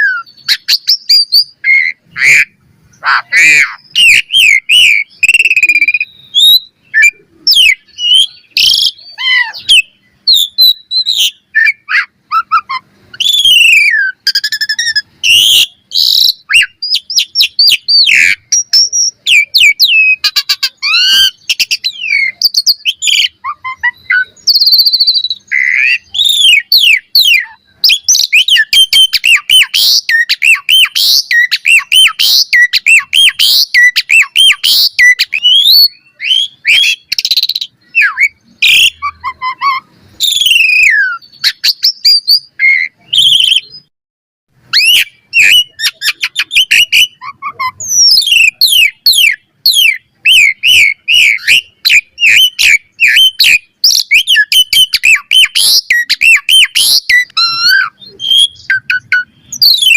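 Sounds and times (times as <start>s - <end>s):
starling singing: 0.0s - 43.9s, 44.6s - 59.9s.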